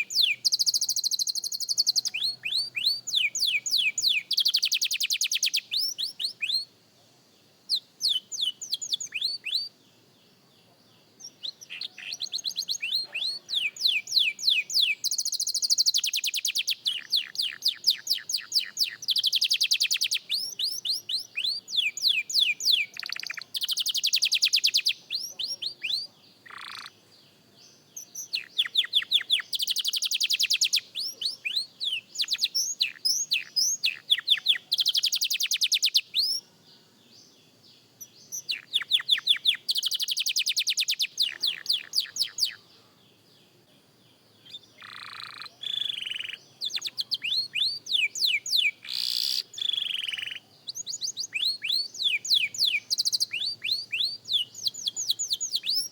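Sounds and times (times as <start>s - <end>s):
canary singing: 0.0s - 6.7s, 7.7s - 9.8s, 10.6s - 36.5s, 38.0s - 42.9s, 44.4s - 55.9s.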